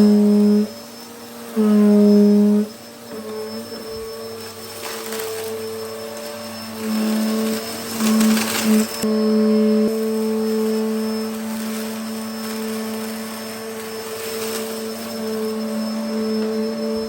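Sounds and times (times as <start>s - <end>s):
vacuum cleaner running on carpet: 0.0s - 17.0s.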